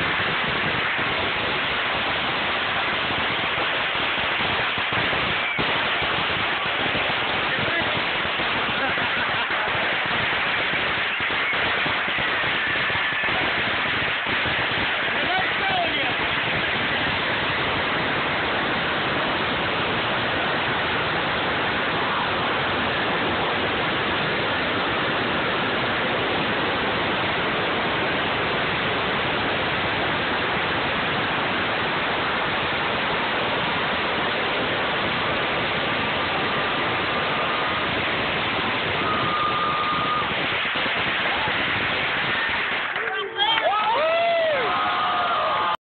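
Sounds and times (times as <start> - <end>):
firecrackers crackling: 0.0 - 45.8.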